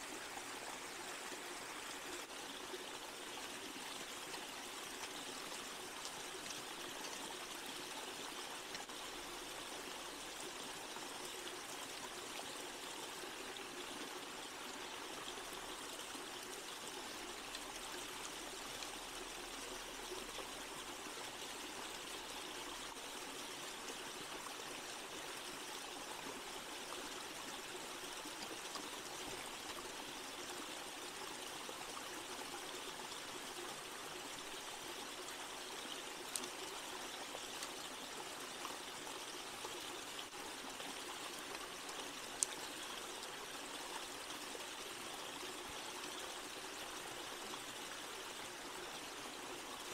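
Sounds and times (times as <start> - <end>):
stream flowing over rocks: 0.0 - 49.9.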